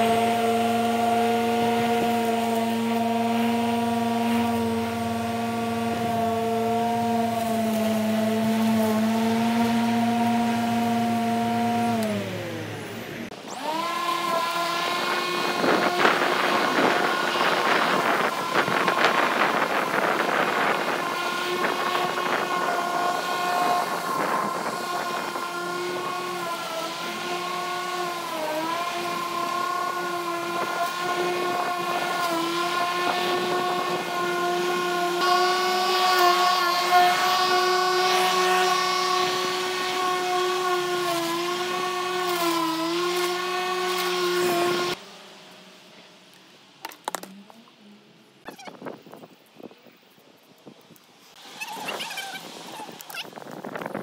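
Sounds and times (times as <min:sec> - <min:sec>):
electric lawn mower whine: 0:00.0 - 0:48.1, 0:51.2 - 0:54.0.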